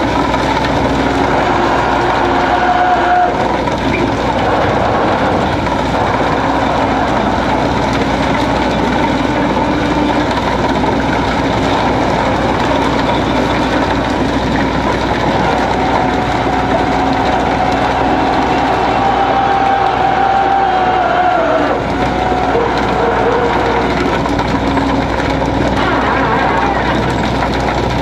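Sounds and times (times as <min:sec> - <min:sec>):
deck machinery running: 0:00.0 - 0:28.0.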